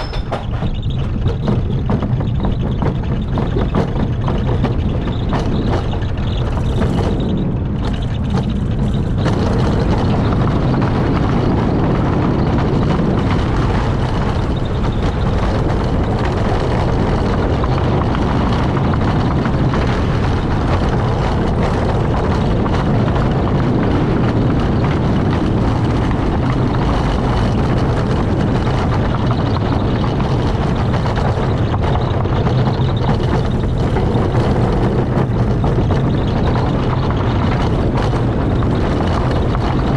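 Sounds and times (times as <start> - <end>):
wheels rumbling on track: 0.0 - 39.9
wind rushing over camera: 0.0 - 39.9.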